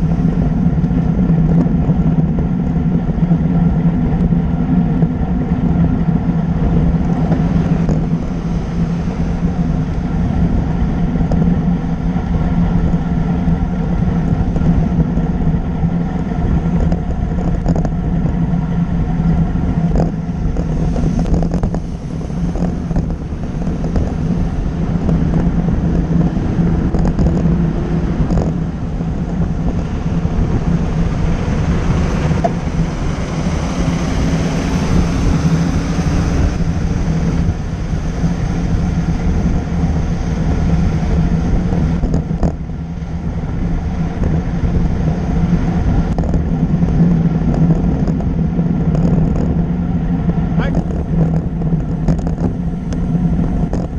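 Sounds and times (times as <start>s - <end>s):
road traffic: 0.0s - 53.9s
wind rush over microphone: 0.0s - 53.9s.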